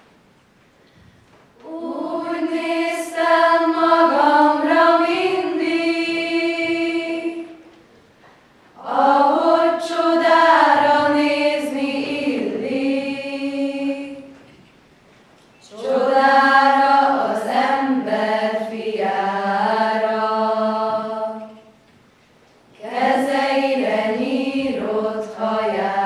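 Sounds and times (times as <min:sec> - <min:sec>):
choir of young voices singing: 0:01.6 - 0:07.7, 0:08.7 - 0:14.6, 0:15.6 - 0:21.8, 0:22.8 - 0:26.0.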